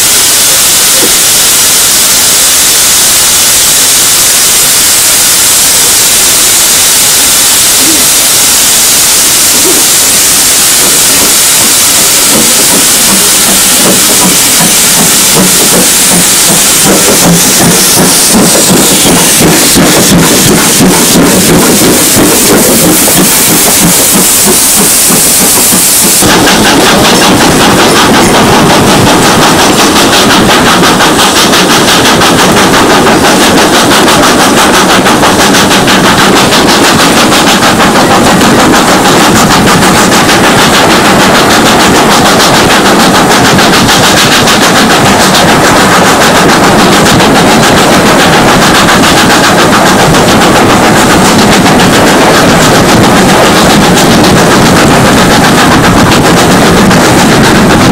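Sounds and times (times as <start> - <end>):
loud steam hiss: 0.0 - 57.9
steam locomotive exhaust beats: 0.0 - 57.9.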